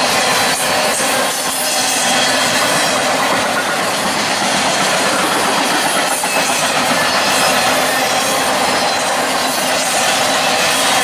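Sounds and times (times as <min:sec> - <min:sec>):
train wheels rolling on rails: 0:00.0 - 0:11.0.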